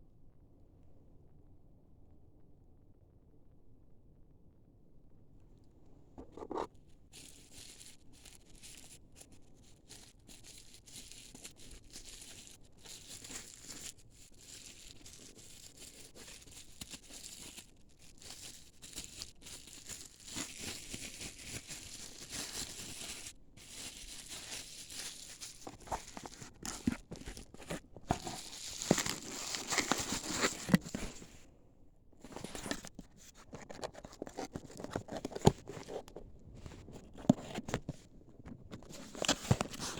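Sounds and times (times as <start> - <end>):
packaging crinkling and tearing: 6.2 - 31.3, 32.2 - 39.9.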